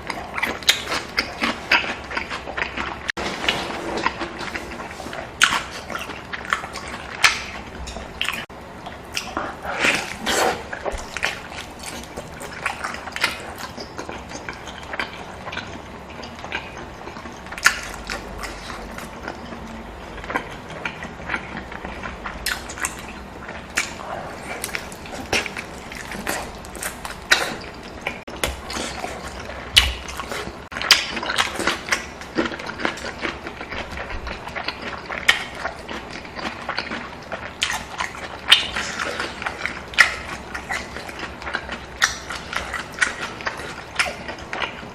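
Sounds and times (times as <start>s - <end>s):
chewing and mouth smacks: 0.0s - 3.2s, 4.0s - 44.9s.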